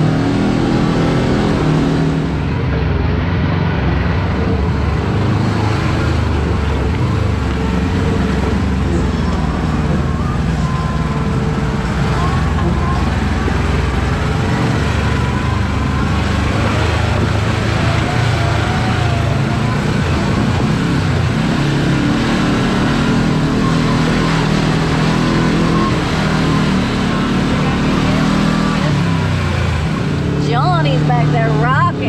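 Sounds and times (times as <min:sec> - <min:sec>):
tyre and chassis rumble: 0:00.0 - 0:32.0
vehicle engine running under load: 0:00.0 - 0:32.0.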